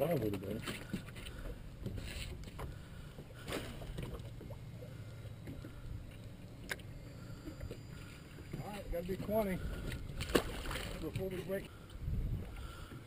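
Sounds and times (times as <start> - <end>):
water and wind rumble: 0.0 - 13.0.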